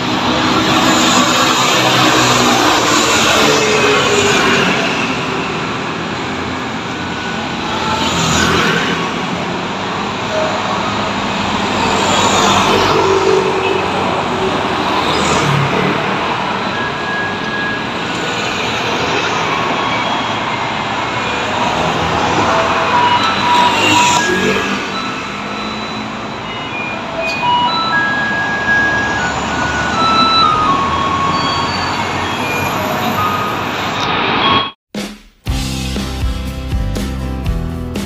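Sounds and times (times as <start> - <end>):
bus rumbling by: 0.0 - 34.6
scooters and cars passing: 0.0 - 34.6.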